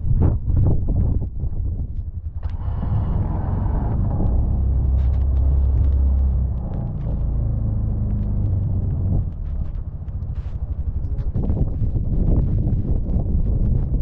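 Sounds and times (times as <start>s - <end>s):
engine droning under load: 2.4s - 14.0s.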